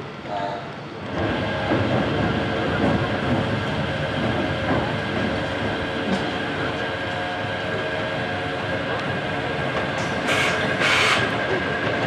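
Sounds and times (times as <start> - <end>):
roller coaster wheels rumbling on track: 0.0 - 12.0.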